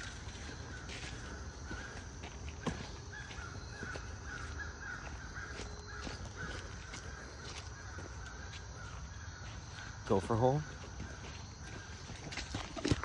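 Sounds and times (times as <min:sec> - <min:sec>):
footsteps through undergrowth: 0:00.0 - 0:13.0.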